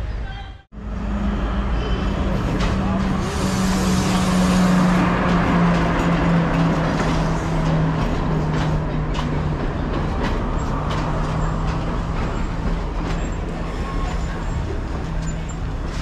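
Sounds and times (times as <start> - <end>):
train wheels rumbling: 0.7 - 16.0.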